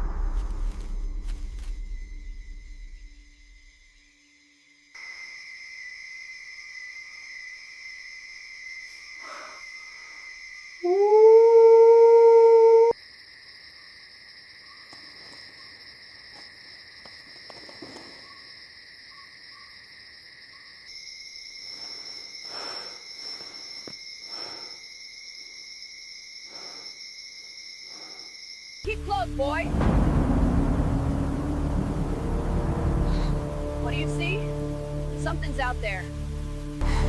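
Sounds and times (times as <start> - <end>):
high-pitched insect chorus: 0.0 - 37.0.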